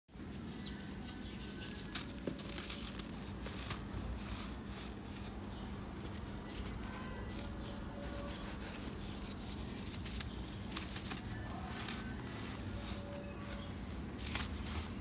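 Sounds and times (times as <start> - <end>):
dirt crumbling through fingers: 0.4 - 15.0.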